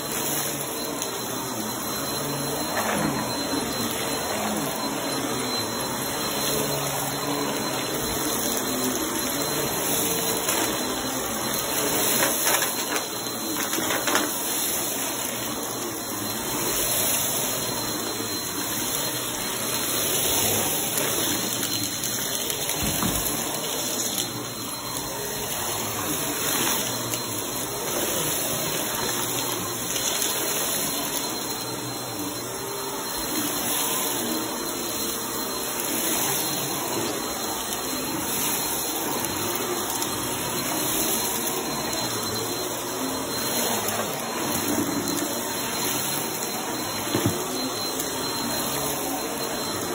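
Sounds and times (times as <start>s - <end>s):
vacuum cleaner on carpet: 0.0s - 49.9s.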